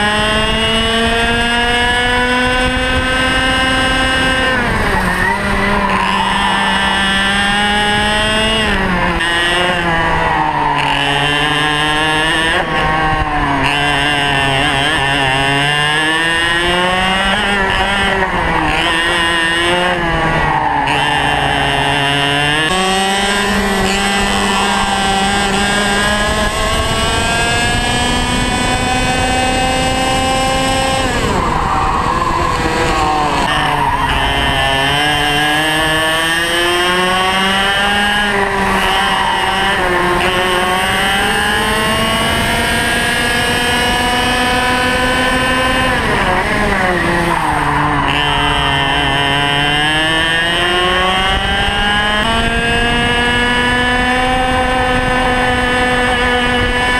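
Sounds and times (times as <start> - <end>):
racing kart engine: 0.0 - 56.9.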